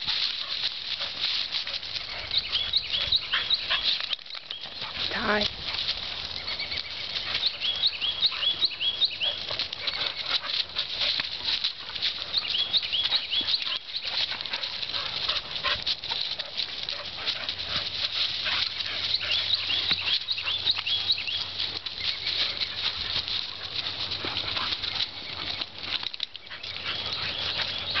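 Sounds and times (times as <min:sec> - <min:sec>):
dog noises: 0:00.0 - 0:28.0
paws scuffling in dry leaves: 0:00.0 - 0:28.0.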